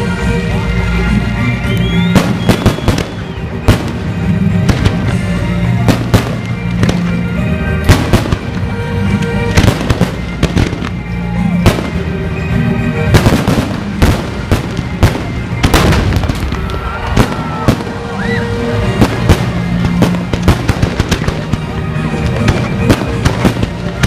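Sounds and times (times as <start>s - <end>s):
music playing: 0.0s - 24.0s
fireworks banging: 1.8s - 24.0s.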